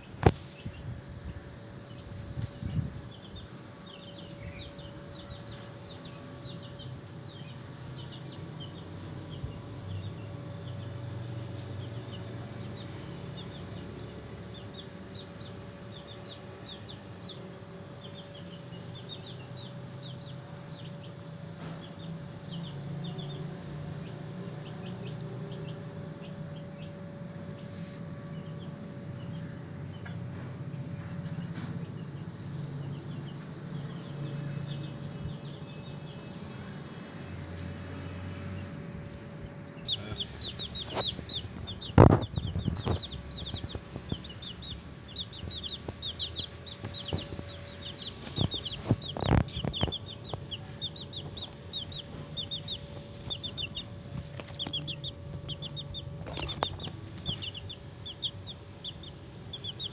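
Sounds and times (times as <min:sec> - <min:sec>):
baby chickens peeping: 0:00.0 - 0:59.9.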